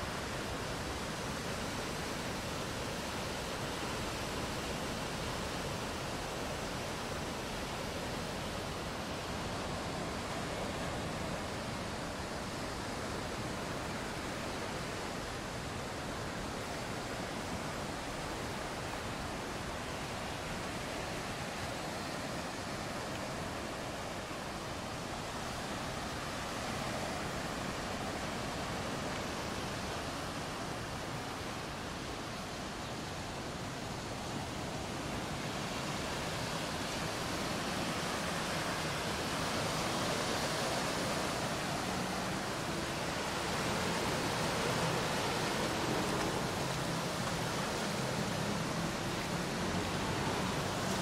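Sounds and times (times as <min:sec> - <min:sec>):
sea surf washing on beach: 0:00.0 - 0:51.0.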